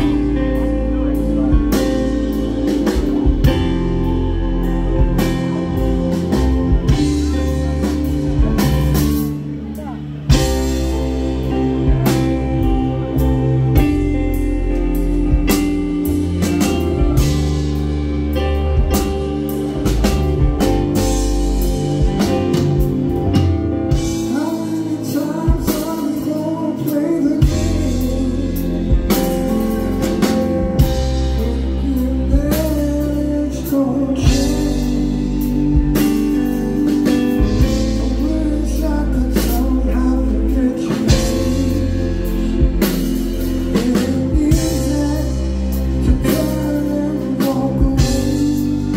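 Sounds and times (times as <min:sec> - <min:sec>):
keyboard: 0:00.0 - 0:48.9
live rock band: 0:00.0 - 0:48.9
man singing: 0:00.0 - 0:48.9.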